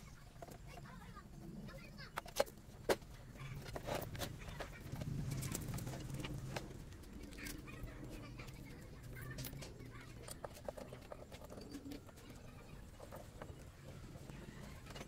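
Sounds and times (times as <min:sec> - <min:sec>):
small tools clicking and tapping: 0:02.0 - 0:15.0.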